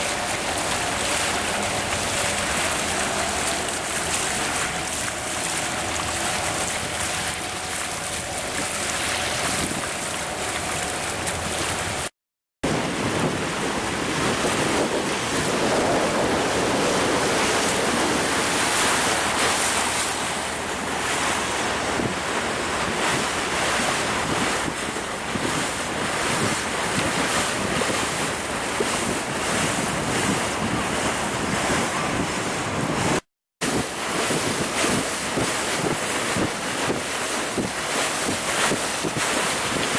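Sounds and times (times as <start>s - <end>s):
water rushing past boat: 0.0s - 39.9s
wind buffeting microphone: 0.0s - 39.9s.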